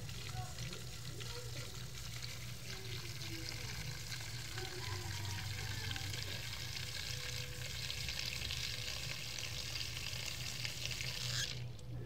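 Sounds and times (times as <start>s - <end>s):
tap water running into metal pot: 0.0s - 11.6s.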